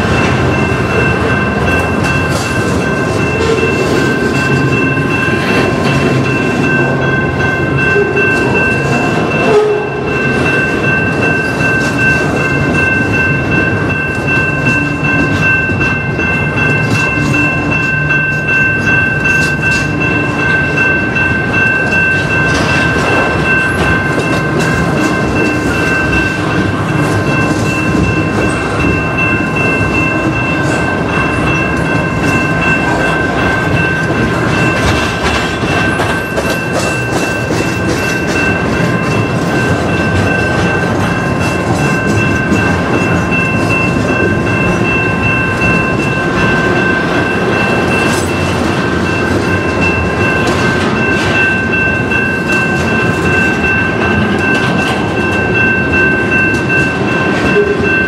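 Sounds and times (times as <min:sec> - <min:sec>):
wheels clacking over rail joints: 0:00.0 - 0:57.9
freight train rumbling past: 0:00.0 - 0:58.0
steady high ringing: 0:00.0 - 0:58.0.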